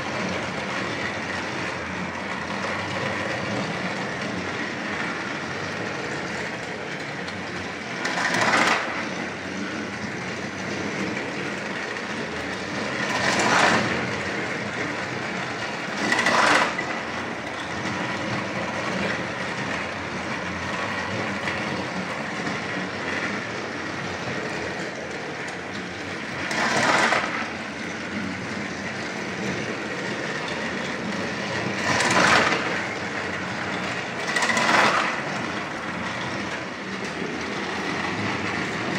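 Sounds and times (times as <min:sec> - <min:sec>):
toy trains whirring on plastic track: 0:00.0 - 0:38.9.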